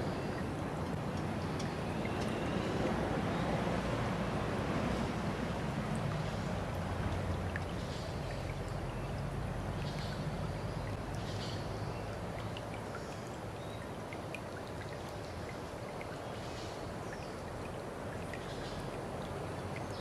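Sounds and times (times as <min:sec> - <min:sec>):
water drips and splashes: 0:00.0 - 0:20.0
water running like a stream: 0:00.0 - 0:20.0.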